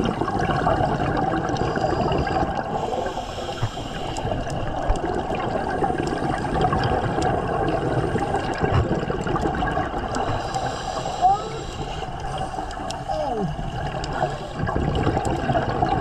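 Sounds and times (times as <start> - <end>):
underwater bubbling: 0.0 - 16.0.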